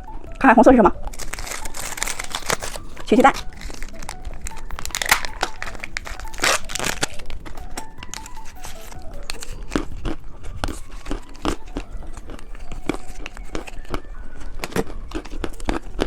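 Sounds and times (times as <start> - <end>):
plastic packaging crackling: 0.0 - 16.0
candy packaging snapping: 1.0 - 16.0.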